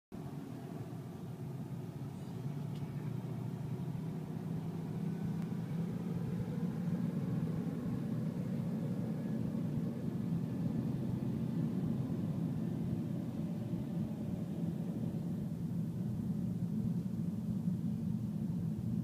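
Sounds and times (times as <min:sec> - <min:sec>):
car engine and road noise: 0:00.1 - 0:19.0.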